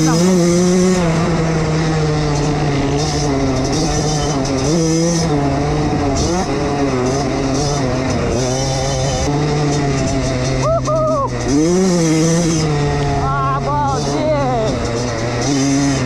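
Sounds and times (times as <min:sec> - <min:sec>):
small motorbike engine revving: 0:00.0 - 0:16.0.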